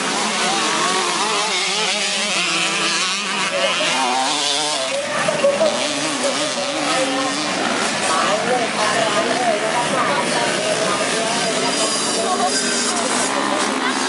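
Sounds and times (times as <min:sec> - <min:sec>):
dirt bike engines racing: 0:00.0 - 0:14.0.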